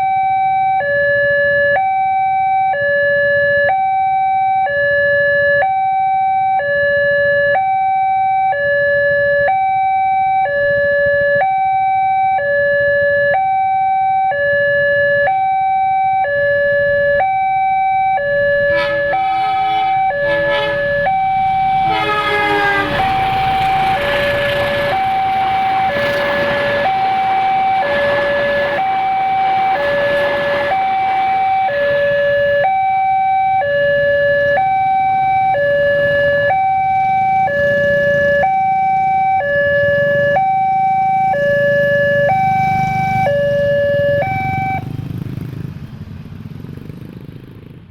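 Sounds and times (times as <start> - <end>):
two-tone crossing alarm: 0.0 - 45.2.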